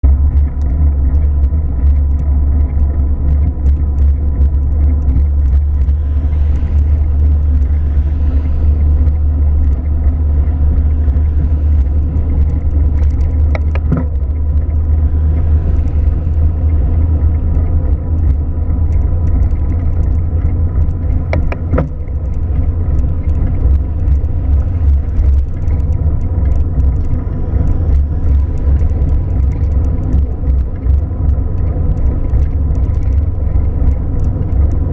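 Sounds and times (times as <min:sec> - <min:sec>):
car rumbling: 0:00.0 - 0:34.9.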